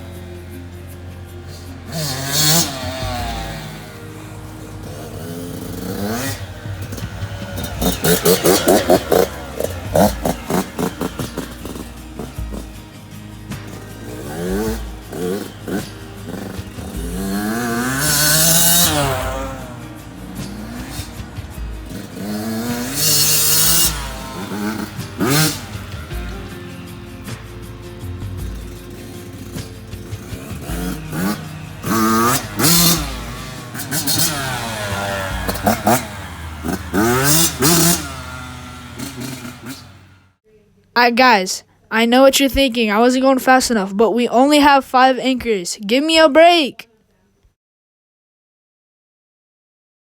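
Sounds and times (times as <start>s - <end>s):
dirt bike engine revving: 0.0s - 40.4s.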